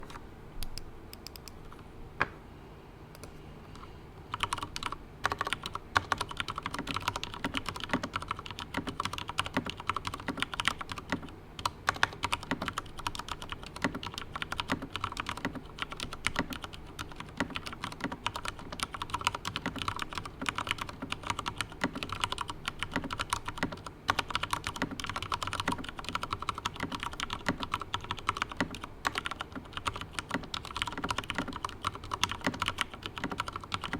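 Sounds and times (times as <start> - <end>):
mechanical keyboard typing: 3.2 - 33.9.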